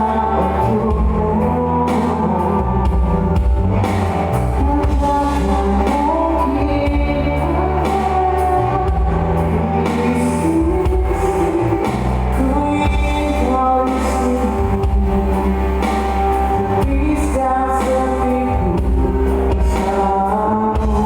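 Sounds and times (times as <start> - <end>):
bass guitar: 0.0 - 21.0
drum kit: 0.0 - 21.0
electric guitar: 0.0 - 21.0.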